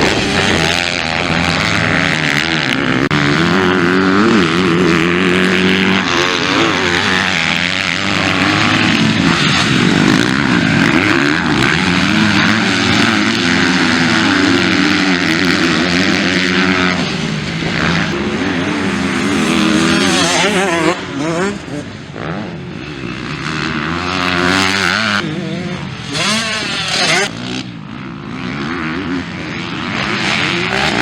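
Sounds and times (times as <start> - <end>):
motocross engines revving: 0.0 - 31.0.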